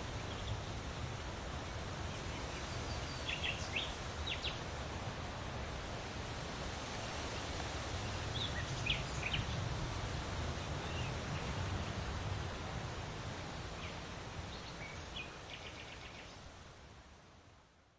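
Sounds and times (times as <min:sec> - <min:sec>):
rushing haze with low rumble: 0:00.0 - 0:17.1.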